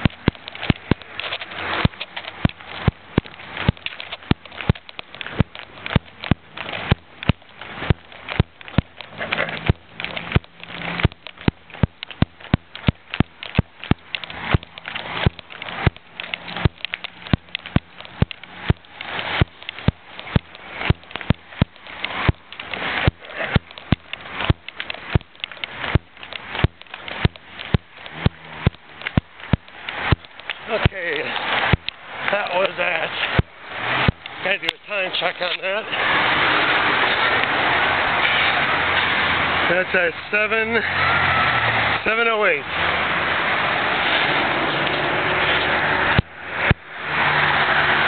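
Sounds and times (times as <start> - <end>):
footsteps on sidewalk: 0.0 - 48.0
street traffic: 0.0 - 48.0.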